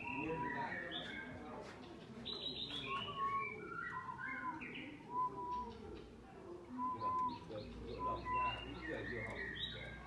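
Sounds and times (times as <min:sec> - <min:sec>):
songbirds singing whistled notes: 0:00.0 - 0:10.0.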